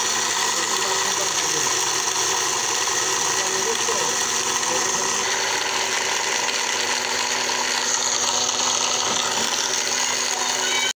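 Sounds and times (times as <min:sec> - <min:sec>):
mixer-grinder chopping grains: 0:00.0 - 0:11.0.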